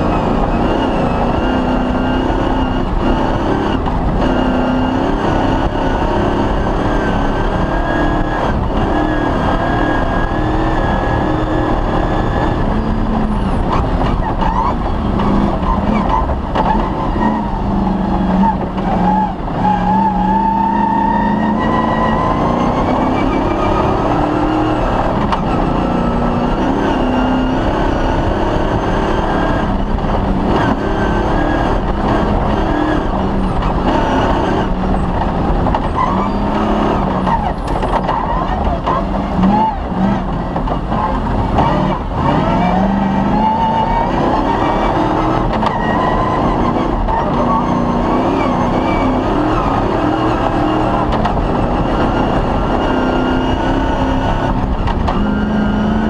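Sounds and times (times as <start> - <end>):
rally car engine revving: 0.0 - 56.0
tyre and road noise: 0.0 - 56.0.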